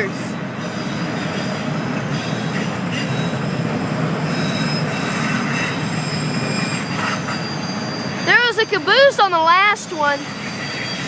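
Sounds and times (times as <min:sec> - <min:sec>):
freight train cars rumbling: 0:00.0 - 0:11.0
wheels squealing on rails: 0:00.0 - 0:11.0.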